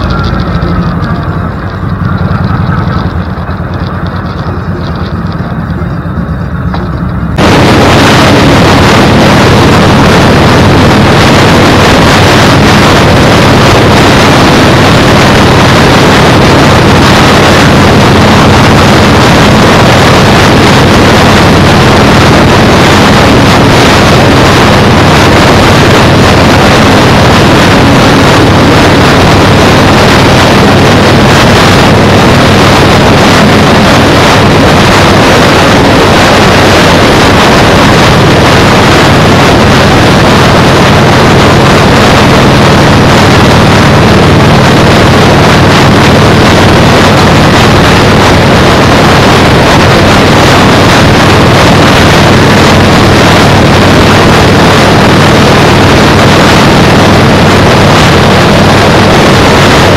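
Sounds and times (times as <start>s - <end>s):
motorcycle engine drone: 0.0s - 59.9s
wind buffeting microphone: 0.0s - 59.9s.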